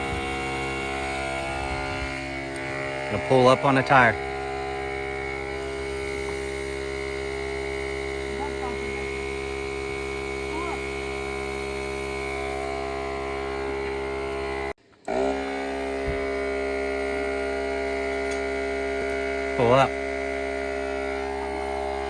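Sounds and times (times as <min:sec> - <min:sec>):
electric motor hum: 0:00.0 - 0:22.0.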